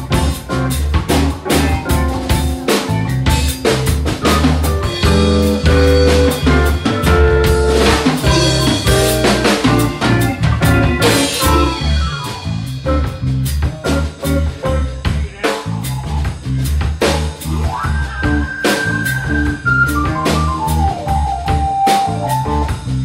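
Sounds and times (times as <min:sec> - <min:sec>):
bass guitar: 0:00.0 - 0:23.0
drum kit: 0:00.0 - 0:23.0
electric guitar: 0:00.0 - 0:23.0
electric keyboard: 0:00.0 - 0:23.0.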